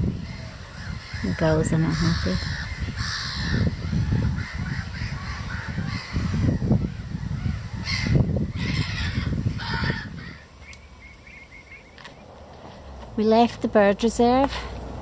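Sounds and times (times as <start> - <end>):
flock of birds calling: 0.0 - 14.4.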